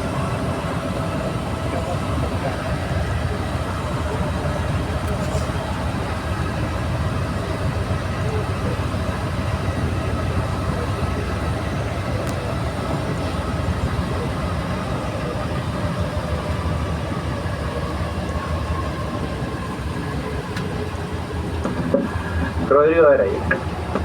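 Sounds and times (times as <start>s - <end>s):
faint running gear tones: 0.0s - 24.0s
metro car rumbling: 0.0s - 24.0s.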